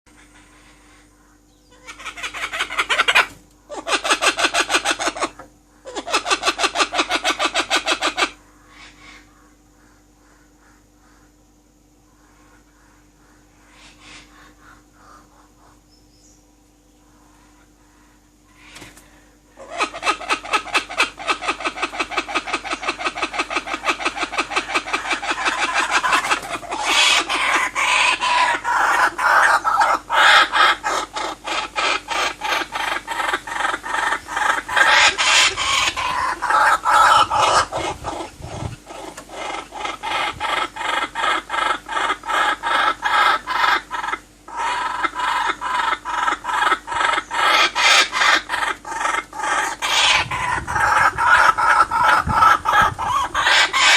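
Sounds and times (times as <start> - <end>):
bird clucking: 0.1 - 11.4, 12.1 - 15.9, 17.4 - 53.9.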